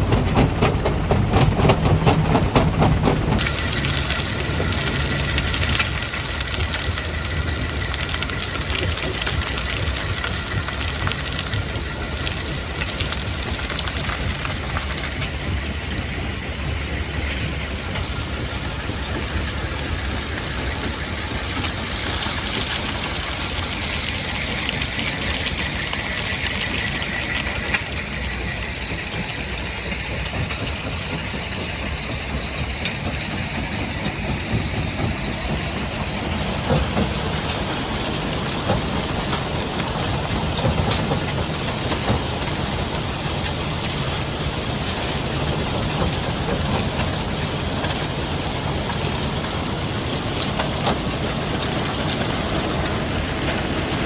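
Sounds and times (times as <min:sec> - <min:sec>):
dense mechanical clatter: 0:00.0 - 0:54.0
diesel engine drone: 0:00.0 - 0:54.0.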